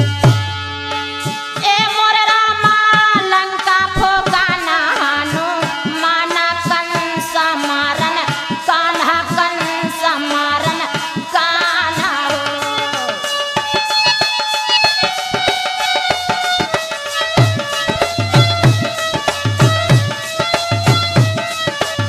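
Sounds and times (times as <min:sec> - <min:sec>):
hand drum rhythm: 0:02.6 - 0:22.0.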